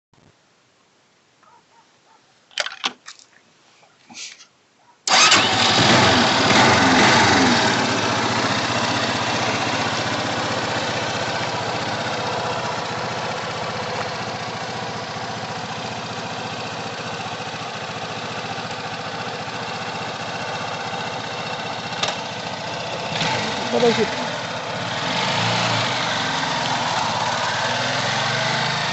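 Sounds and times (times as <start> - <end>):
motorcycle engine starting and idling: 5.1 - 28.9.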